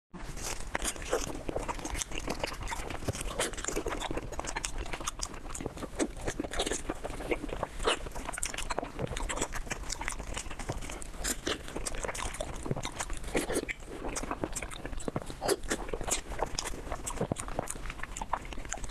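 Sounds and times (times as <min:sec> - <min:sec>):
person chewing crunchy food: 0:00.2 - 0:18.9.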